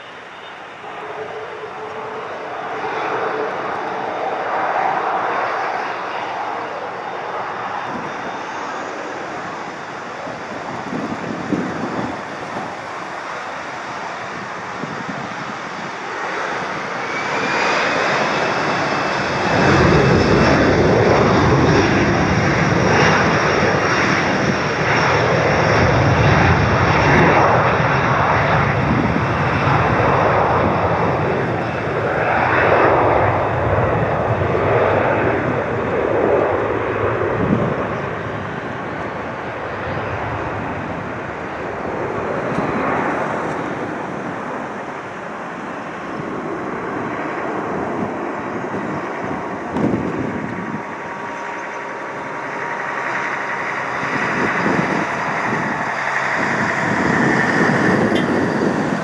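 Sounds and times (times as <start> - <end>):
jet engines roaring: 0.0 - 59.0
high fan whine: 6.6 - 17.1, 17.9 - 59.0.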